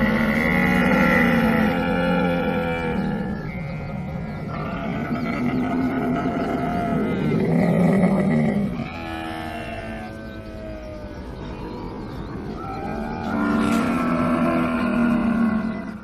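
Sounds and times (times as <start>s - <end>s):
camel groaning and bellowing: 0.0s - 11.0s, 12.6s - 16.0s.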